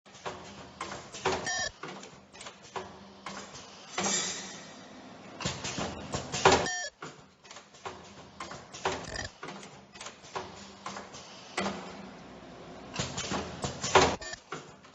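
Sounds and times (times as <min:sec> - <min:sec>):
machine clicks and knocks: 0:00.1 - 0:04.5, 0:05.4 - 0:12.0, 0:12.9 - 0:14.9.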